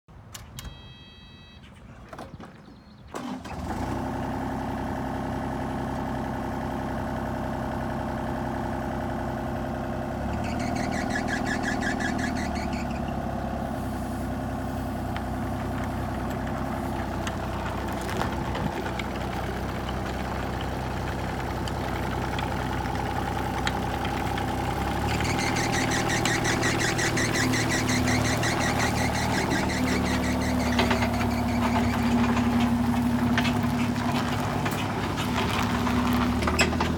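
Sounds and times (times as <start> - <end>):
excavator diesel engine running: 3.2 - 36.9.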